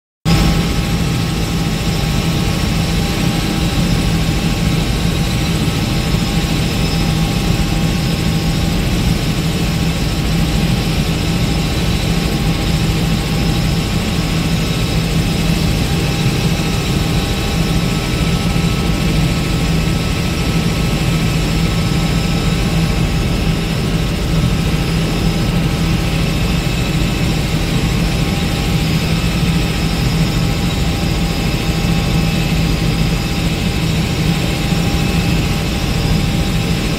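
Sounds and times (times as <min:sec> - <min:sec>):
helicopter rotor and engine noise: 0:00.3 - 0:36.9.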